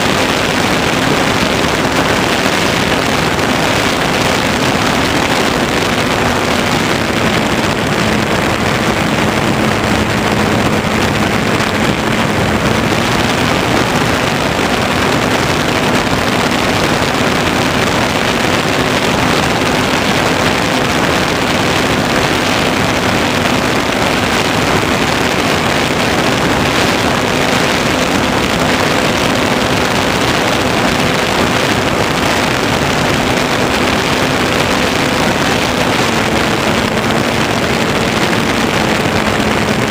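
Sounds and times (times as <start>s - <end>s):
electric motor and propeller humming: 0.0s - 39.9s
rush of air: 0.0s - 39.9s.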